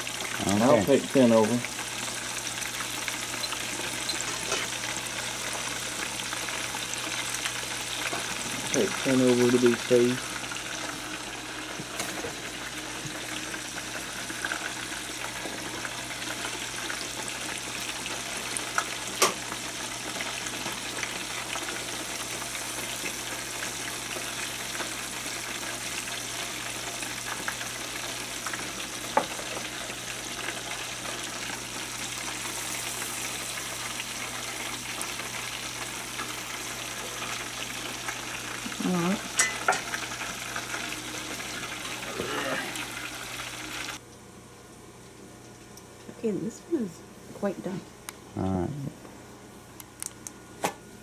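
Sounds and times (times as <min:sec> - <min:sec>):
chicken deep-frying in oil: 0:00.0 - 0:44.0.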